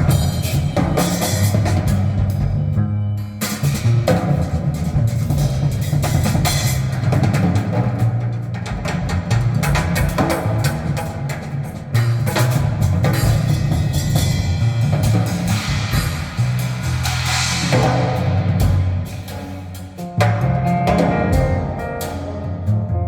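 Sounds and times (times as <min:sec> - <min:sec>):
deep bass line: 0:00.0 - 0:23.0
drums and percussion: 0:00.0 - 0:23.0.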